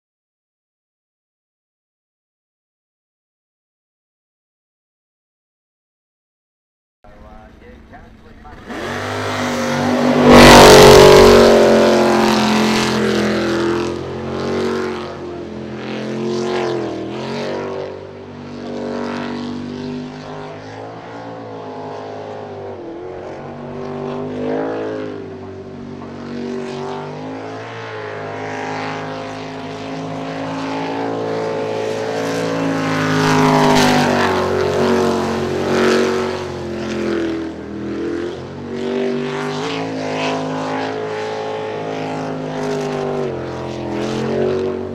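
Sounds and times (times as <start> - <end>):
boat engine revving: 7.1 - 44.9.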